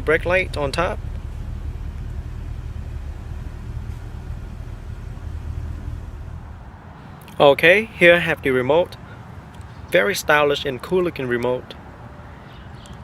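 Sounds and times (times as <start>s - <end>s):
low background rumble: 0.0s - 11.1s.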